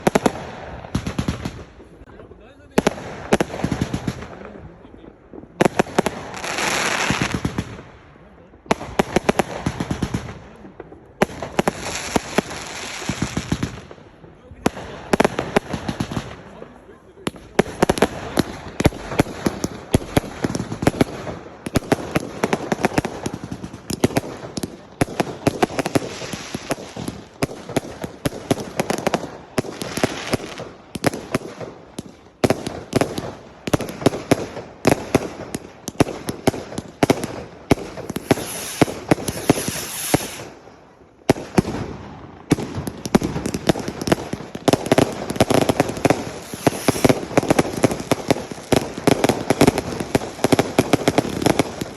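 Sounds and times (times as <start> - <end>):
fireworks rapid bangs: 0.0 - 51.9.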